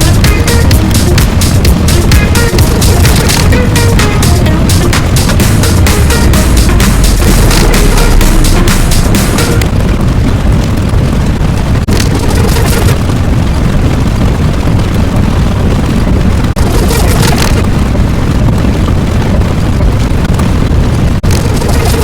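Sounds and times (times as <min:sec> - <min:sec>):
loud low rumbling: 0:00.0 - 0:22.0.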